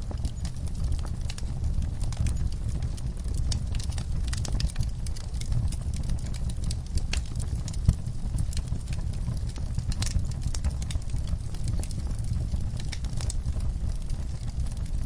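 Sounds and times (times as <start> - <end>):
fireplace crackling and popping: 0.0 - 15.0.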